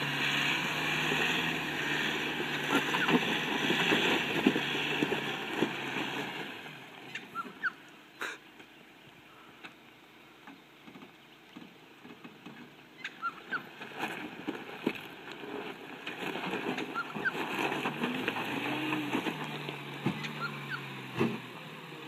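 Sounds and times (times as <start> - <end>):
tyres crunching on gravel: 0.0 - 7.8, 10.6 - 22.0
low engine rumble: 0.0 - 22.0.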